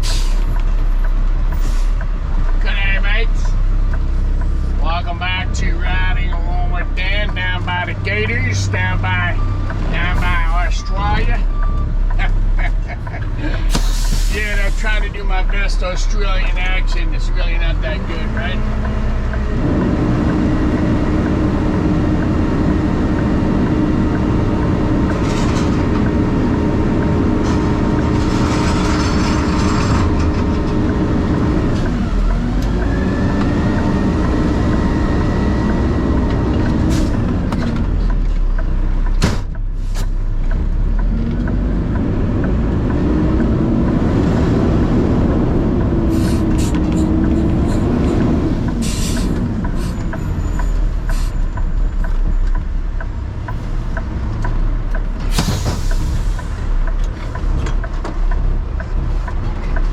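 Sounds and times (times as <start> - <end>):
road rumble: 0.0 - 59.9.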